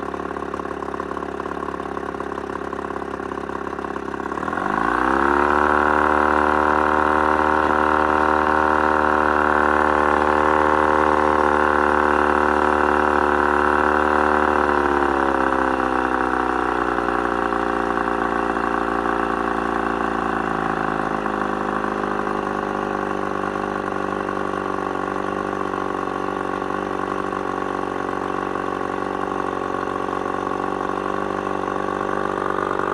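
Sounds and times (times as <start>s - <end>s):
outboard motor running: 0.0s - 32.9s.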